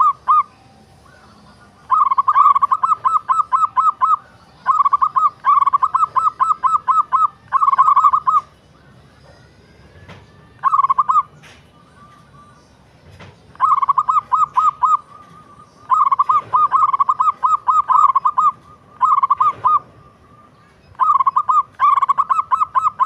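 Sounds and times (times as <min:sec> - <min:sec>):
dove cooing: 0:00.0 - 0:08.6, 0:10.6 - 0:11.5, 0:13.5 - 0:23.0.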